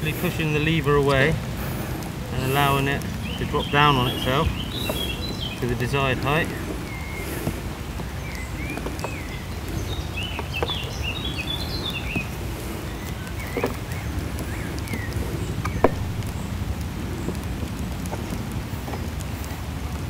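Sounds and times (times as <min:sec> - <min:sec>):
birds chirping: 0:00.0 - 0:20.0
low outdoor noise: 0:00.0 - 0:20.0.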